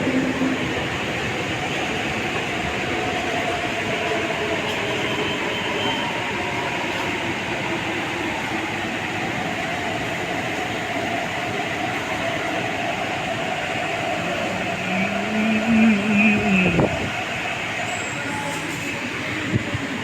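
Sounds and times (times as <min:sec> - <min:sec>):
train rail rumble: 0:00.0 - 0:20.0.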